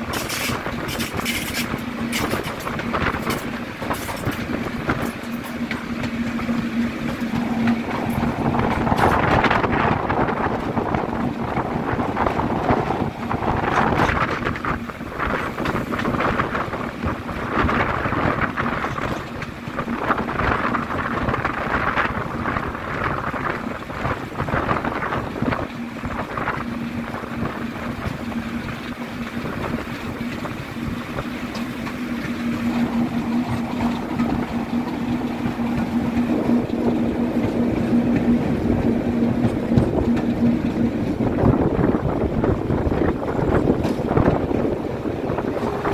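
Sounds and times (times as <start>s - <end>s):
diesel locomotive engine drone: 0.0s - 45.9s
wind buffeting microphone: 0.0s - 45.9s.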